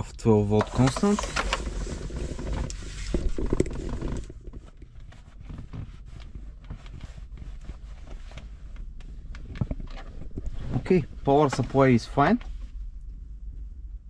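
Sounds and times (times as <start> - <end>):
wiring handling rustling and clicks: 0.5 - 12.6.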